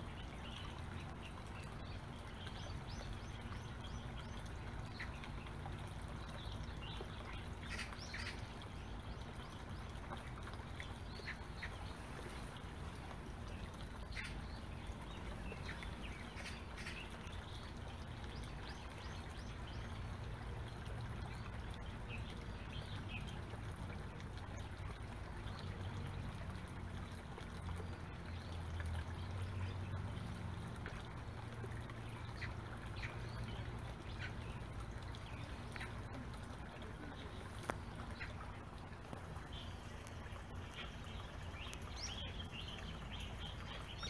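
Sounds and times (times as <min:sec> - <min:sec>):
outdoor background rumble: 0:00.0 - 0:44.0.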